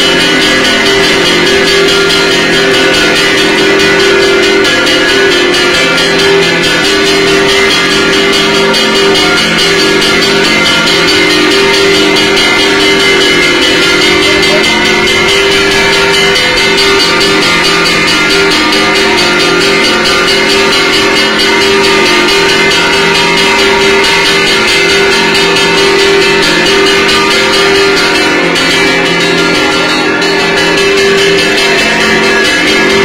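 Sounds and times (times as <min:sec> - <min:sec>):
ceremonial music with metallic percussion: 0:00.0 - 0:33.0.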